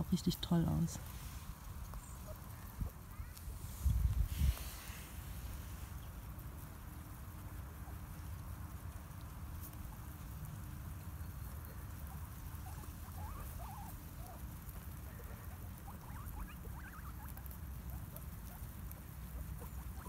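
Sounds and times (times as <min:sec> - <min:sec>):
rabbits nibbling grass: 0:00.0 - 0:20.0.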